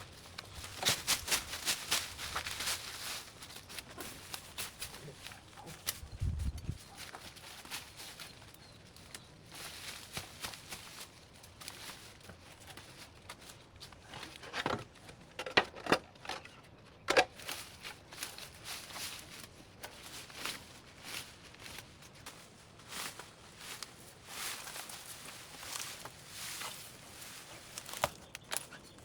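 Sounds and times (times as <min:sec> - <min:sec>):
leaves and vines rustling: 0:00.0 - 0:15.1, 0:17.3 - 0:29.0.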